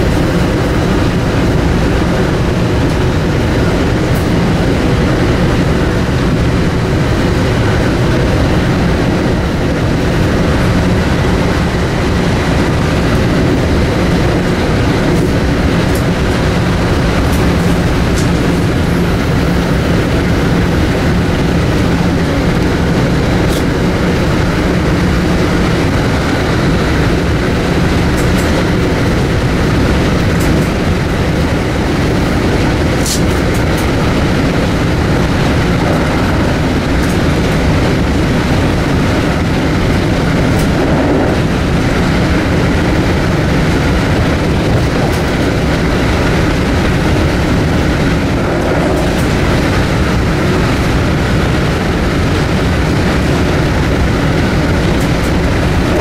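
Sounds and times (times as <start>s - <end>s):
sharp clicks of train wheels: 0.0s - 56.0s
train wheels rumbling on rail: 0.0s - 56.0s.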